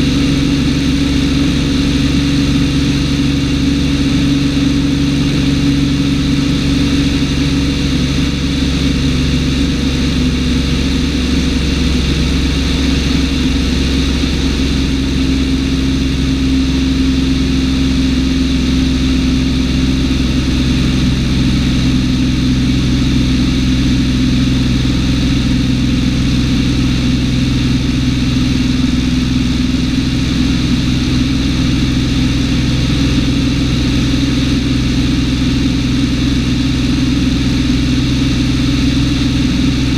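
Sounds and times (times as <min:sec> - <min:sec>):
airplane engine and propeller drone: 0:00.0 - 0:39.9.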